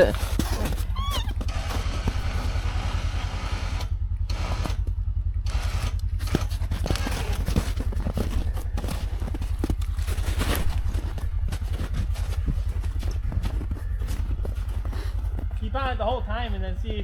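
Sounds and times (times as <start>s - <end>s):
utility vehicle engine idling: 0.0s - 17.0s.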